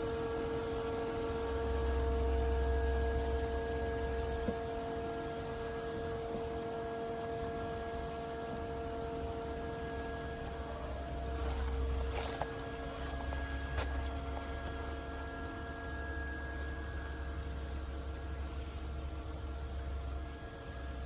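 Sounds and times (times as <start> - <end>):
electric mower motor whine: 0.0 - 21.0.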